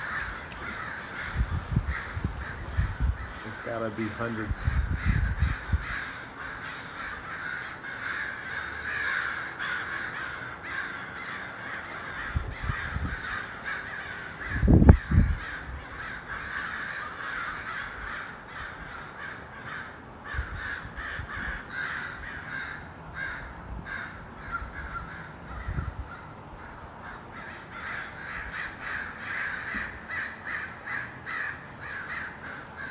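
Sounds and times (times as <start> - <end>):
flock of crows cawing: 0.0 - 32.9.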